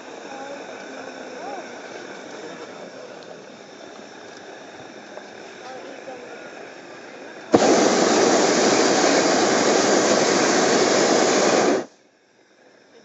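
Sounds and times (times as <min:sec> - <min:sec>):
propane burner blast: 0:00.0 - 0:12.0.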